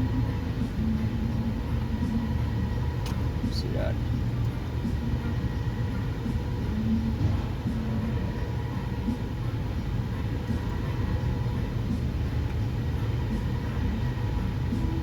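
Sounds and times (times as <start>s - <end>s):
faint hum tones: 0.0s - 15.0s
low rumble of machinery: 0.0s - 15.0s.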